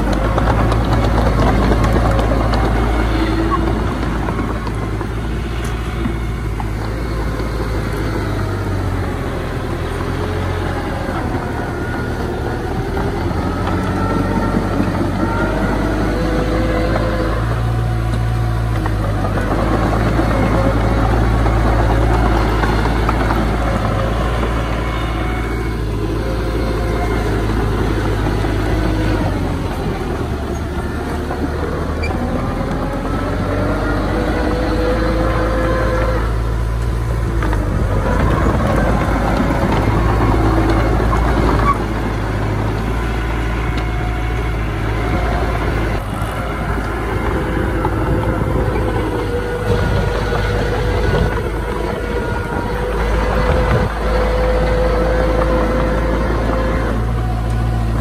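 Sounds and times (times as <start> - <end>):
heavy diesel engines rumbling: 0.0 - 58.0.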